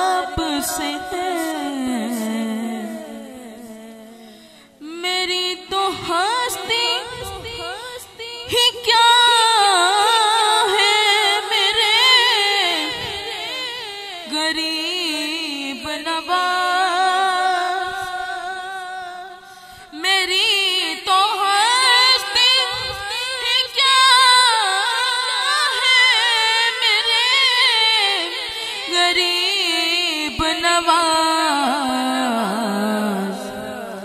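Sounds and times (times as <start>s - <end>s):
boy singing devotional verse: 0.0s - 34.0s.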